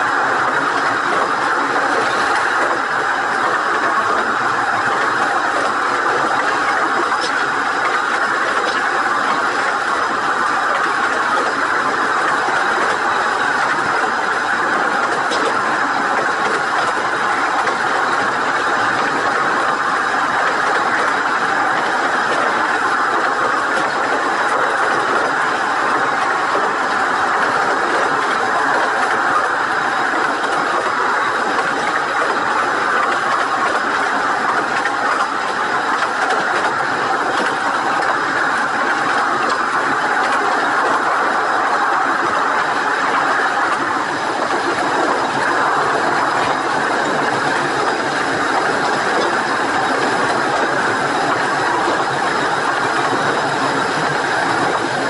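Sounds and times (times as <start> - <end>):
miniature train rolling on track: 0.0 - 55.0.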